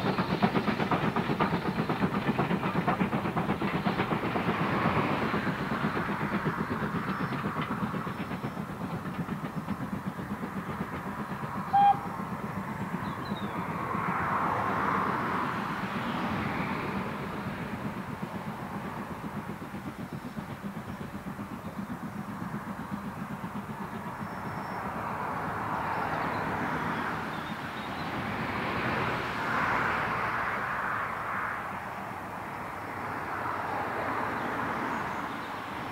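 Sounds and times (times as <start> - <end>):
coaches rumbling on track: 0.0 - 35.9
steam locomotive exhaust beats: 0.0 - 35.9.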